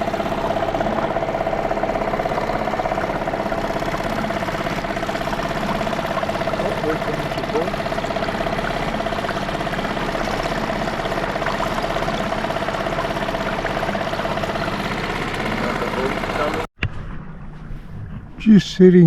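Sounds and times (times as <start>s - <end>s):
outboard motor idling: 0.0s - 16.7s.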